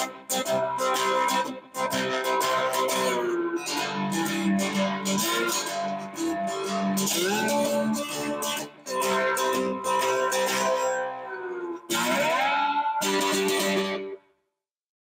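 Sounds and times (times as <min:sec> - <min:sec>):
slide guitar: 0:00.0 - 0:14.2.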